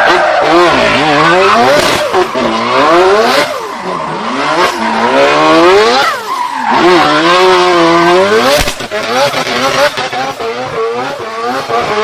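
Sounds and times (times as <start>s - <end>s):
car engine revving hard: 0.0s - 12.0s
tyres skidding: 0.0s - 12.0s.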